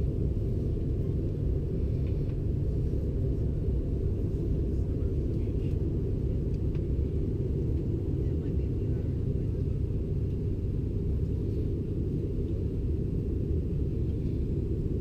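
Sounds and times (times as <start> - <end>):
airflow over fuselage: 0.0 - 15.0
jet engine drone in cabin: 0.0 - 15.0.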